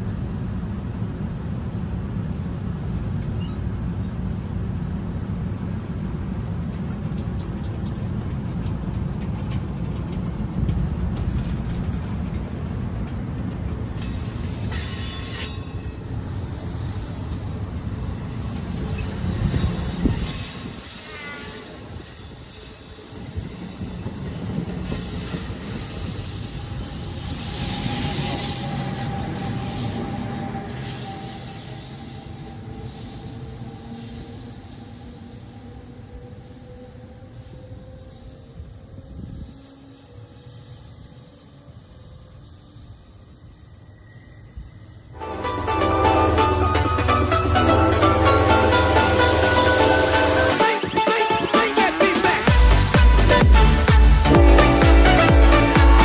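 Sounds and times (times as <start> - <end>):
train rumbling: 0.0 - 56.0
train wheels squealing on rails: 2.2 - 4.9, 6.1 - 52.9.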